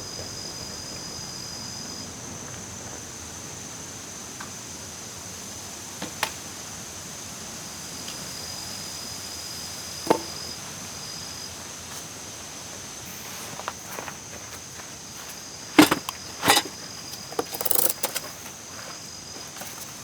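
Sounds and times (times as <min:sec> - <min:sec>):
steady high-pitched hiss: 0:00.0 - 0:20.0.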